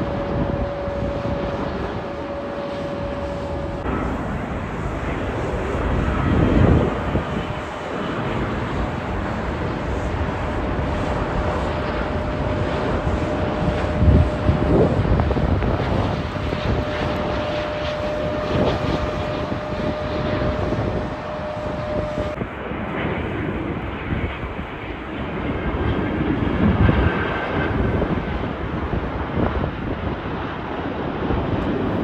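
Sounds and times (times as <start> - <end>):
jet engines rushing: 0.0 - 32.0
jet engines whining: 0.0 - 32.0.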